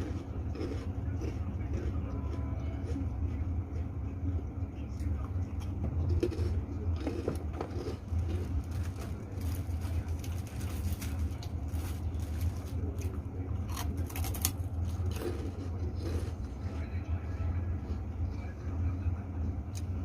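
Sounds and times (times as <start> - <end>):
crunching fried crackers: 0.0 - 3.9, 5.1 - 18.6
steady low hum: 0.0 - 20.0.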